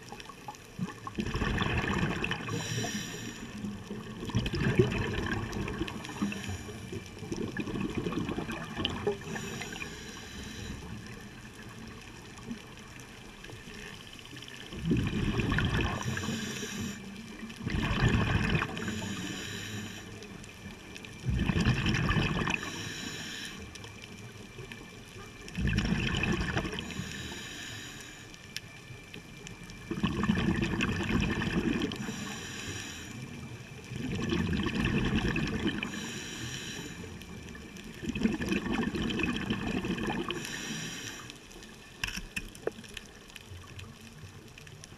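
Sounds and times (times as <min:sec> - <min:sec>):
scuba exhaust bubbles gurgling: 0:00.0 - 0:44.9.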